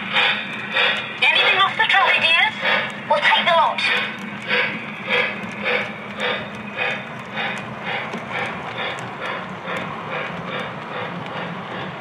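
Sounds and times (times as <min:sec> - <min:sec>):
electronic steam chuffing: 0:00.0 - 0:12.0
toy train rolling hum: 0:00.0 - 0:12.0.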